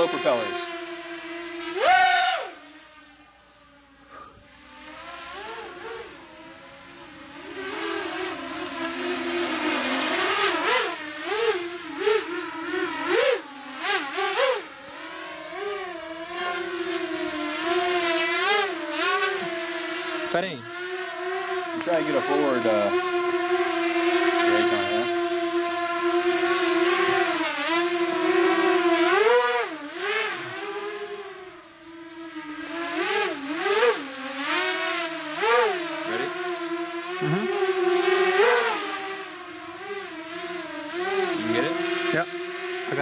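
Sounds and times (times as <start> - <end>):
drone motors whining: 0.0 - 43.0.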